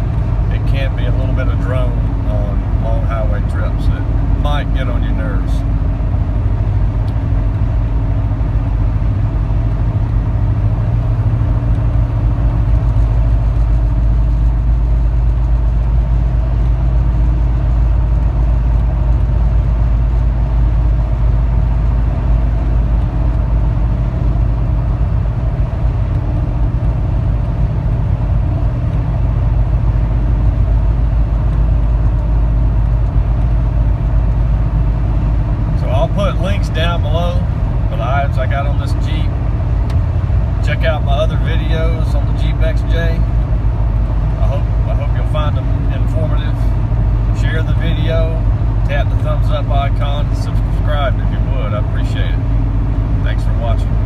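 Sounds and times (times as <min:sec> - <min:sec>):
low exhaust drone: 0:00.0 - 0:54.0
tire and wind noise: 0:00.0 - 0:54.0.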